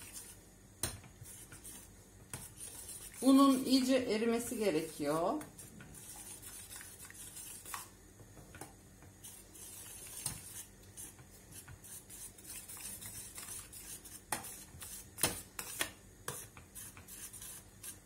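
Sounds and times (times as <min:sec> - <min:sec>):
metal spoon stirring in saucepan: 0:01.3 - 0:07.9, 0:09.3 - 0:15.0, 0:15.6 - 0:18.0.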